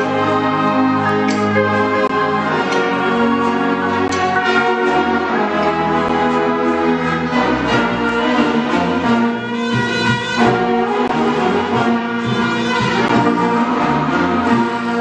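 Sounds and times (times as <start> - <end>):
wind band playing a mambo: 0.0 - 15.0.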